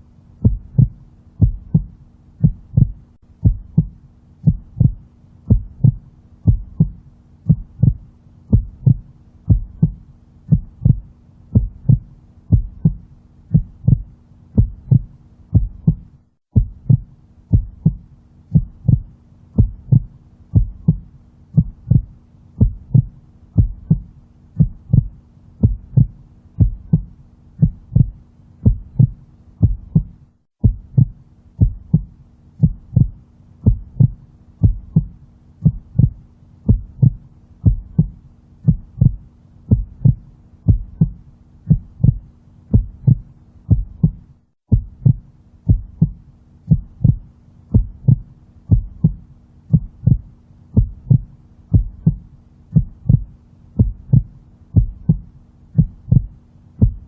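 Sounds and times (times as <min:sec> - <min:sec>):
faint steady hum: 0:00.0 - 0:57.0
heartbeat thumping: 0:00.4 - 0:57.0.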